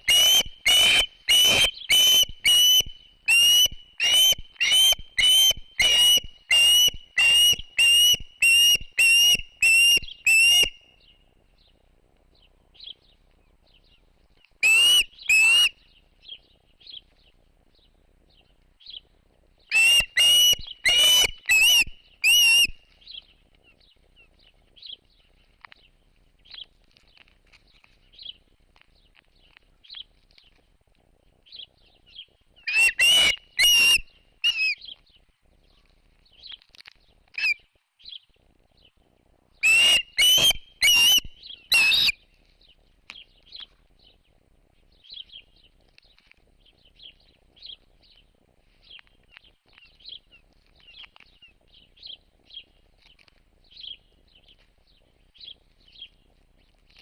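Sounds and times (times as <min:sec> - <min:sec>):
birds chirping: 0:00.0 - 0:30.6, 0:31.4 - 0:57.0.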